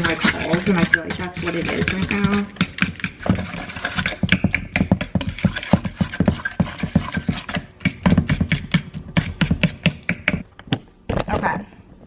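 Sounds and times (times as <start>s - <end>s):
utensil beating batter in bowl: 0.0s - 10.4s.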